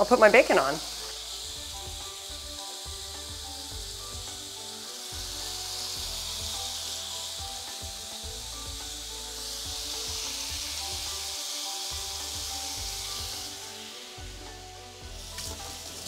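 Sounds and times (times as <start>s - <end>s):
bacon and eggs sizzling on grill: 0.0s - 16.0s.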